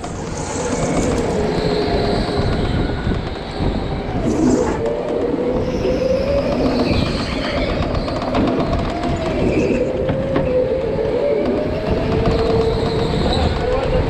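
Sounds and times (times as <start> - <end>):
go-kart motor whine: 0.0 - 14.0.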